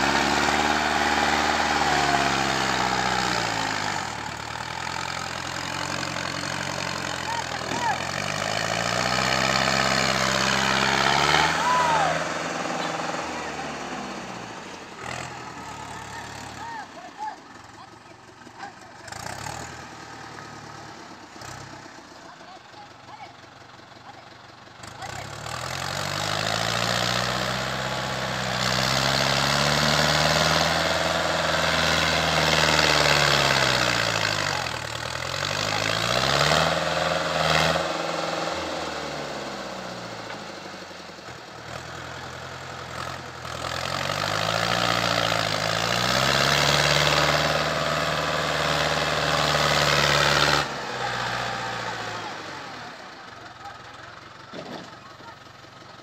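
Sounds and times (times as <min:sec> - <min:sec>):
tractor engine revving: 0:00.0 - 0:56.0.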